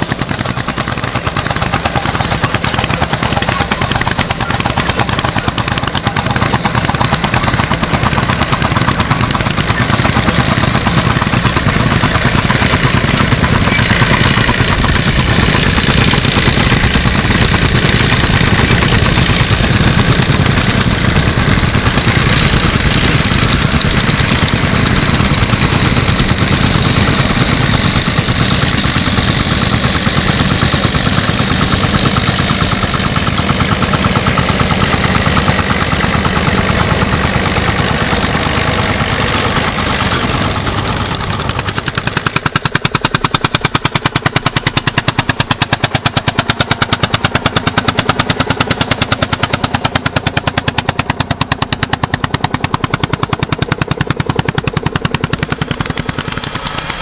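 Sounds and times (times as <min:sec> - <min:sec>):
tractor engine with exhaust pops: 0:00.0 - 0:57.0.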